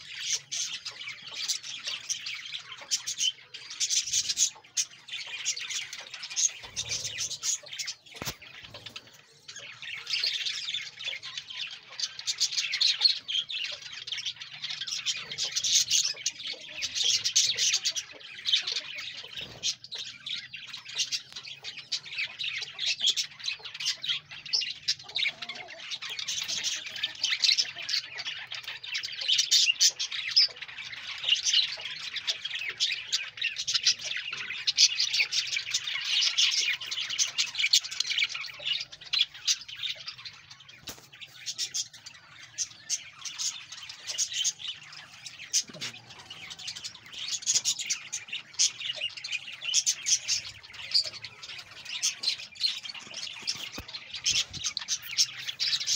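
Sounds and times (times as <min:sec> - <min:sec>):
budgerigars chattering: 0:00.0 - 0:55.9.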